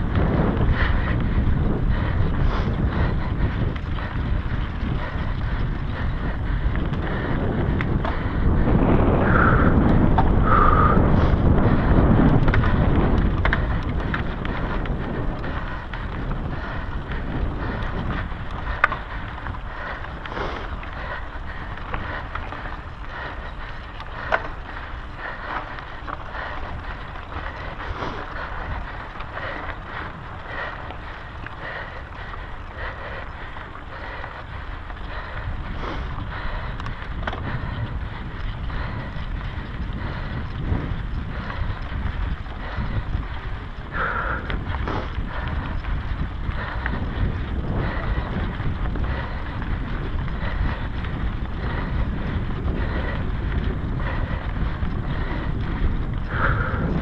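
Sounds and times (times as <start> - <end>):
tyres rumbling on dirt: 0.0 - 57.0
wind rushing on microphone: 0.0 - 57.0.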